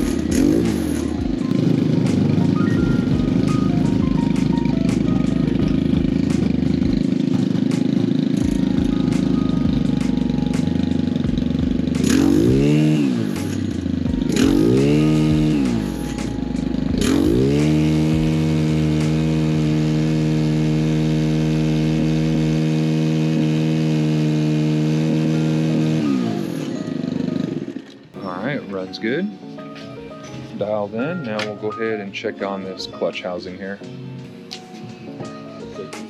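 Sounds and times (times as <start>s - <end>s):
string trimmer engine revving: 0.0s - 29.0s.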